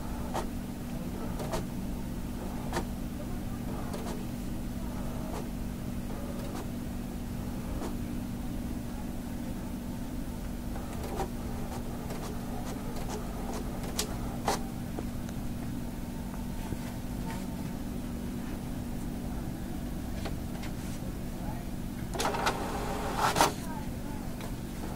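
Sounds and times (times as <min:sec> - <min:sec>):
printer humming: 0:00.0 - 0:24.9.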